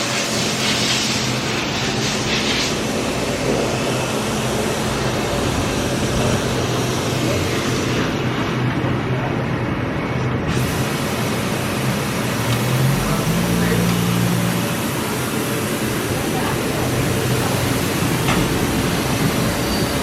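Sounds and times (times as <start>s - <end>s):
machinery hiss: 0.0s - 8.6s, 10.5s - 20.0s
machinery hum: 0.0s - 20.0s.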